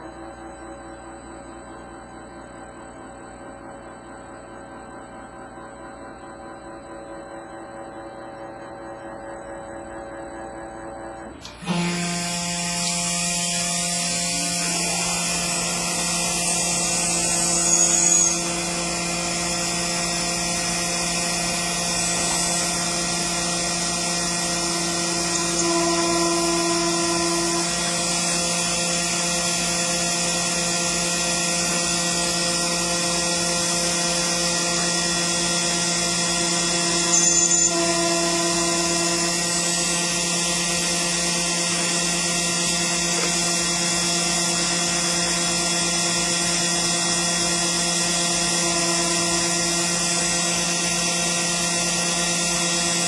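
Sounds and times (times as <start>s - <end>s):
engraving machine spindle whine: 0.0s - 53.0s.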